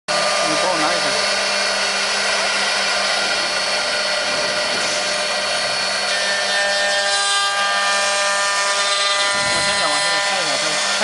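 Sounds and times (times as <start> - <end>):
bits cutting wood: 0.1 - 11.0
router spindles whining: 0.1 - 11.0.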